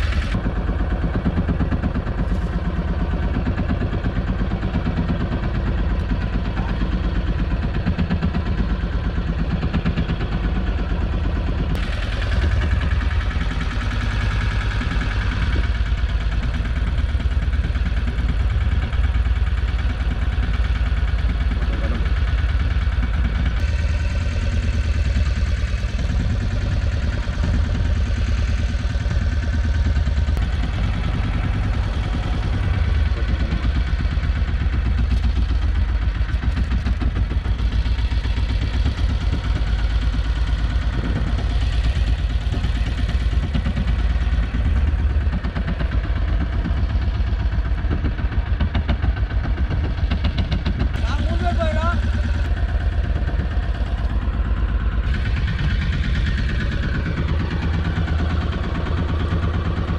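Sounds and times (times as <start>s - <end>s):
outboard motor droning: 0.0s - 59.9s.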